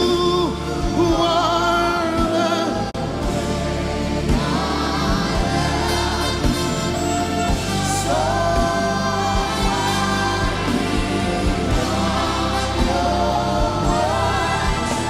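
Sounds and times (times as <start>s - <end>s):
steady bass notes: 0.0s - 15.0s
voices singing gospel: 0.0s - 15.0s.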